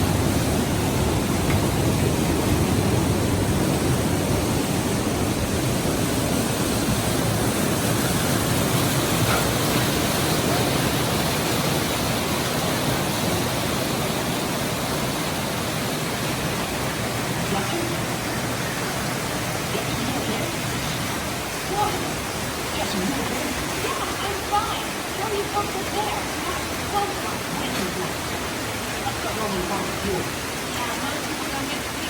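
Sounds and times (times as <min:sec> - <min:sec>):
water rushing and crashing: 0:00.0 - 0:32.0.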